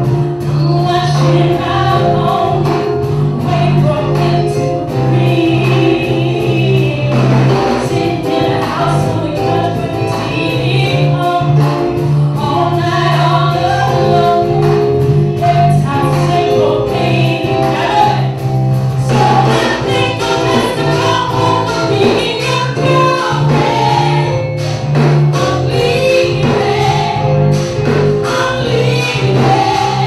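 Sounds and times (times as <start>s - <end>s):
woman singing into microphone: 0.0s - 18.4s, 19.0s - 24.5s, 25.4s - 27.4s, 28.3s - 30.0s
keyboards: 0.0s - 30.0s
low bass notes: 0.0s - 30.0s.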